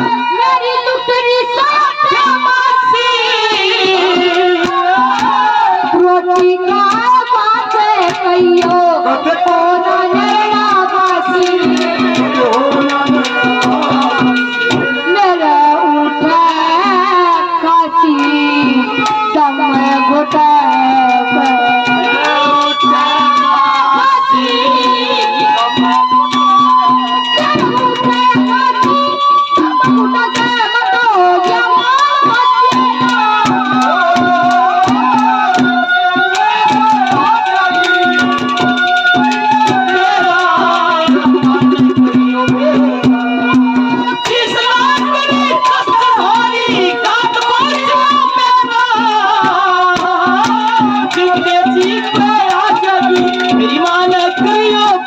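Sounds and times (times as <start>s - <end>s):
harmonium melody with drone: 0.0s - 55.0s
fast hand-drum strokes: 2.1s - 17.5s, 18.1s - 55.0s.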